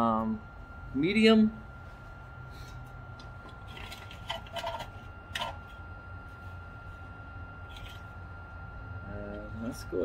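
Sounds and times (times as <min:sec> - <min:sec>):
stove fan whine: 0:00.0 - 0:10.0.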